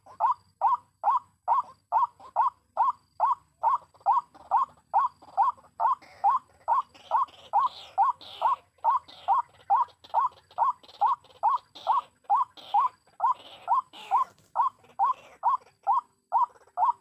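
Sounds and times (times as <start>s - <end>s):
high chirping: 0.0s - 17.0s
waterhen calling: 0.0s - 17.0s.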